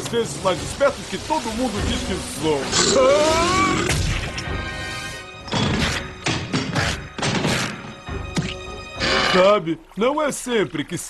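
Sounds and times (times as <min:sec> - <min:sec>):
cartoon soundtrack music: 0:00.7 - 0:09.6.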